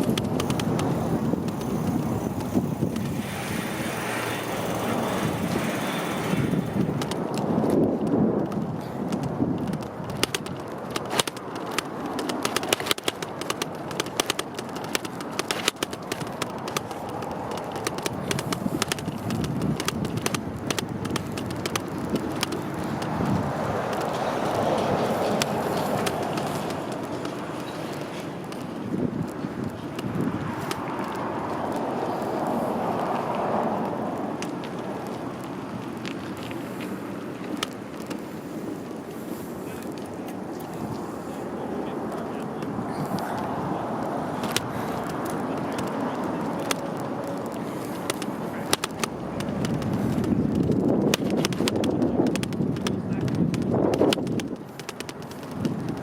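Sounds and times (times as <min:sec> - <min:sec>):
bicycle riding rush: 0:00.0 - 0:56.0
sharp clicks and rattles: 0:00.0 - 0:56.0.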